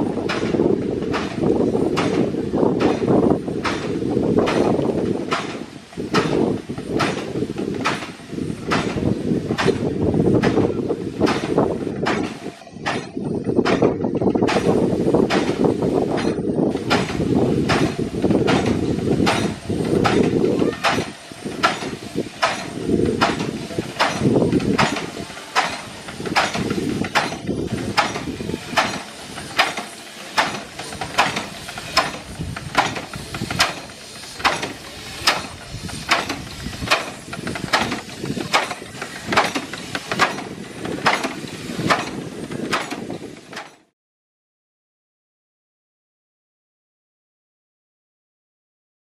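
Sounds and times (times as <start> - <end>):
steam engine knocking: 0.0 - 43.9.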